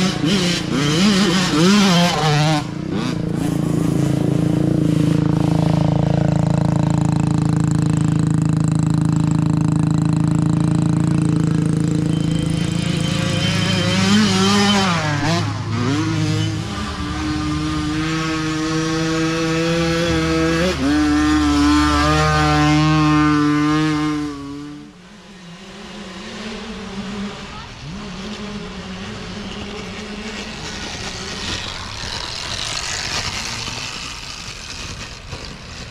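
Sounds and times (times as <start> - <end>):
dirt bike engines passing: 0.0 - 35.9.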